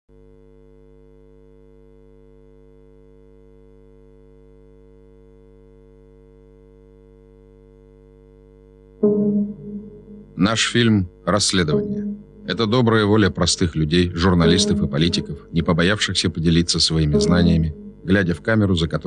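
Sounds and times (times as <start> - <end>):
steady electrical hum: 0.2 - 19.0.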